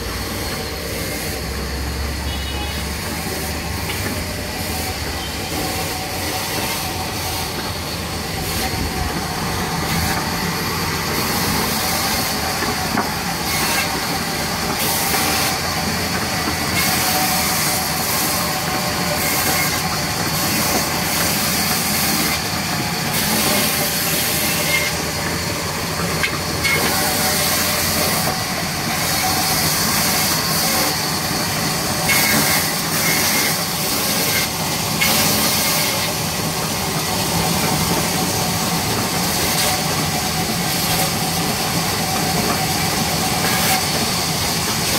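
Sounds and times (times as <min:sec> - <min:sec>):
band saw cutting a log: 0:00.0 - 0:44.9.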